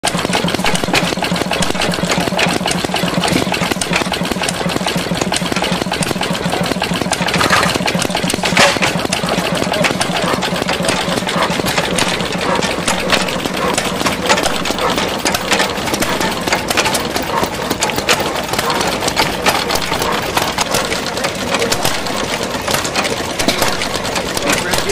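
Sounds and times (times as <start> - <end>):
engine knock: 0.0 - 24.9
hit-and-miss engine running: 0.0 - 24.9.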